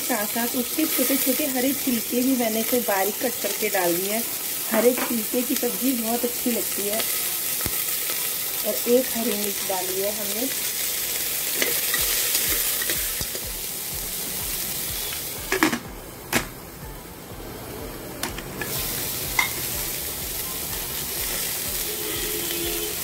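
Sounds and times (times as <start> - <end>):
pumpkin sizzling in oil: 0.0 - 15.8, 18.4 - 23.0.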